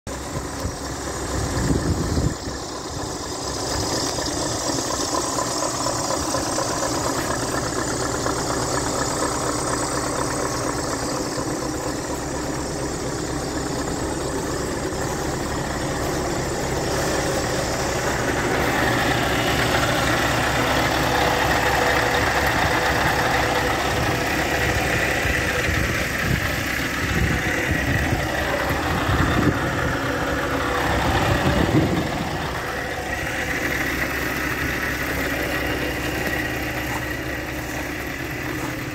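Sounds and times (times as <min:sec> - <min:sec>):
diesel truck engine idling: 0:00.1 - 0:38.9.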